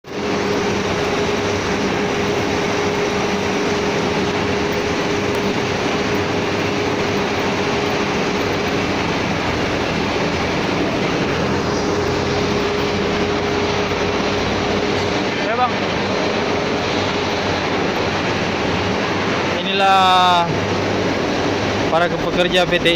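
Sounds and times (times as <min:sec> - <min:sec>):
constant mechanical hum: 0:00.0 - 0:22.9
workshop machinery roar: 0:00.0 - 0:22.9.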